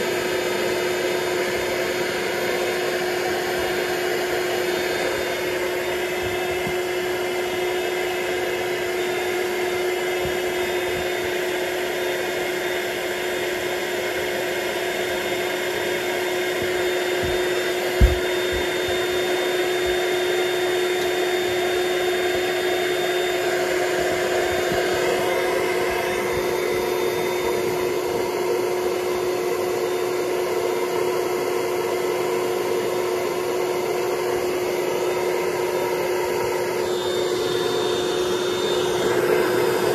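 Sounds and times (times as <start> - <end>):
electric air pump humming: 0.0 - 39.9.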